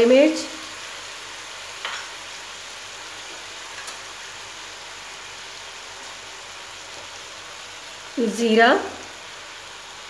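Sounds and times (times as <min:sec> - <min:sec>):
chicken sizzling in butter: 0:00.0 - 0:10.0.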